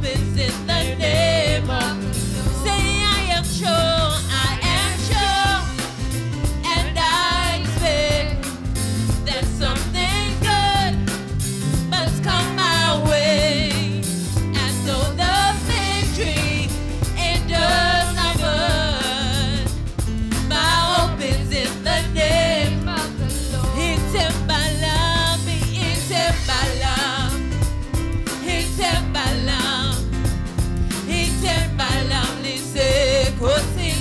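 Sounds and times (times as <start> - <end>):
woman singing gospel song: 0.0 - 8.6, 9.2 - 11.2, 11.8 - 19.7, 20.5 - 27.5, 28.4 - 30.1, 31.1 - 34.0
live band keyboard and drums: 0.0 - 34.0.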